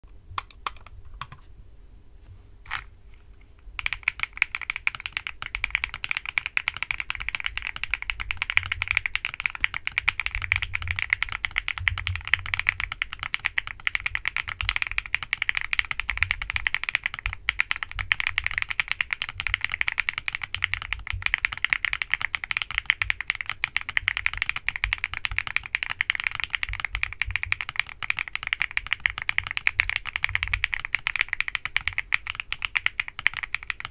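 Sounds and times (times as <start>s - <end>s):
fast mechanical keyboard typing: 3.8s - 33.9s.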